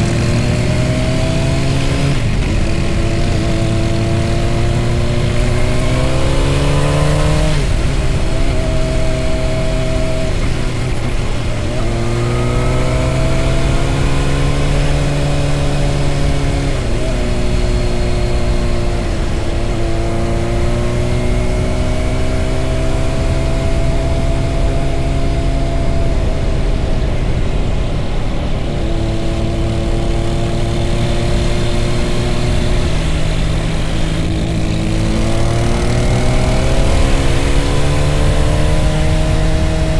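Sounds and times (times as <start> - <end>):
motorcycle engine accelerating: 0.0 - 39.9
wind and road rumble: 0.0 - 39.9.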